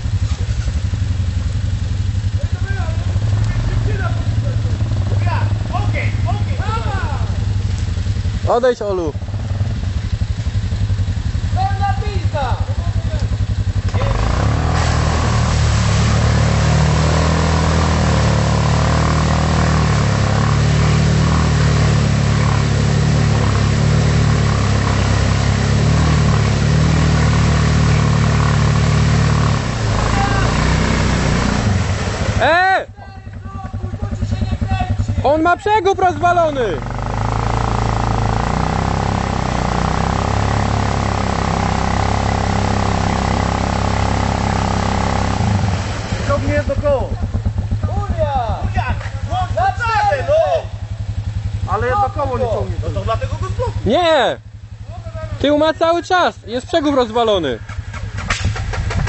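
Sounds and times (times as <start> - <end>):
engine revving at full throttle: 0.8 - 32.8, 33.6 - 59.0.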